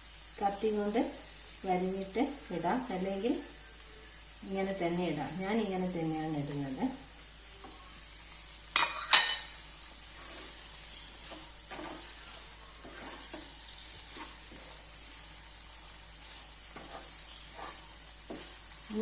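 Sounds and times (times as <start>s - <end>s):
masala sizzling in a frying pan: 0.0s - 19.0s
spoon stirring and scraping pan: 0.4s - 19.0s.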